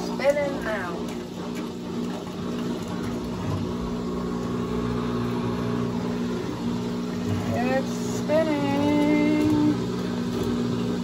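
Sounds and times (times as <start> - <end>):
washing machine hum: 0.0 - 11.0
water swishing in tub: 0.0 - 11.0.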